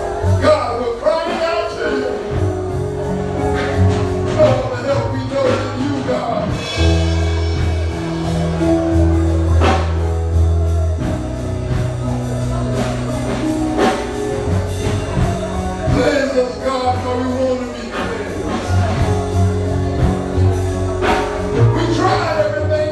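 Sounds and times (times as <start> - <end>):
steady drum beat: 0.0 - 22.6
held bass notes: 0.0 - 22.9
singing: 0.0 - 22.9.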